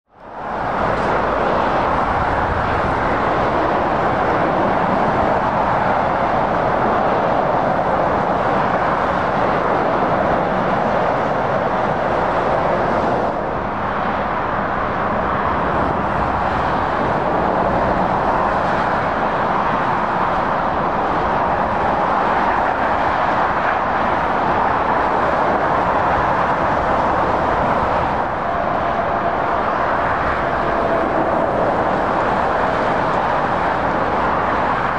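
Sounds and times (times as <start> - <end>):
motorway traffic roar: 0.0 - 34.9.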